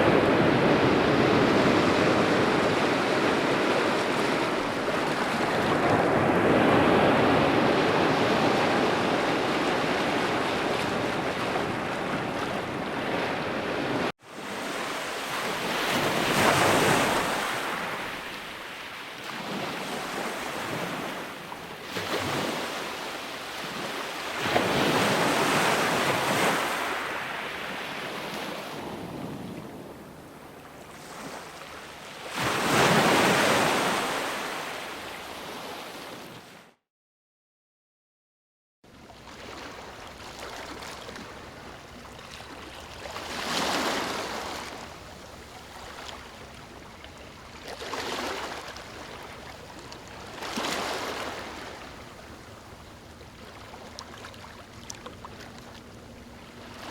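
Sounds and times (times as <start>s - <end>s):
ocean waves breaking and washing: 0.0s - 36.8s, 38.9s - 56.9s.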